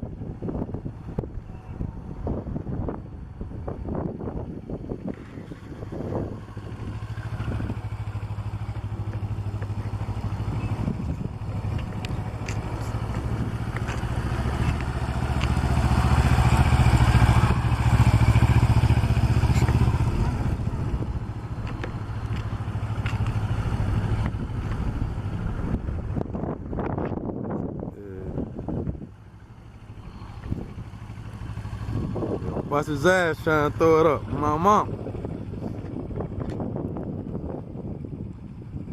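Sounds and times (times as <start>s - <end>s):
motorcycle engine at low speed: 0.0s - 38.9s.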